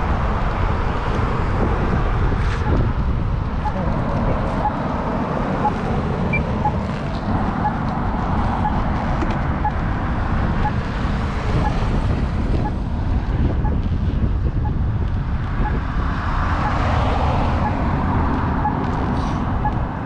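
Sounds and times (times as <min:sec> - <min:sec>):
motor traffic: 0:00.0 - 0:20.0
road rumble: 0:00.0 - 0:20.0
wind noise: 0:00.0 - 0:20.0.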